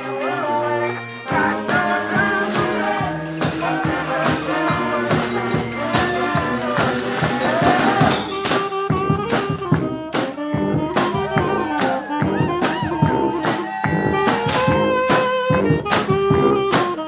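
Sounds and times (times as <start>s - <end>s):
brass band playing: 0.0s - 17.0s
steady drum beat: 0.0s - 17.0s.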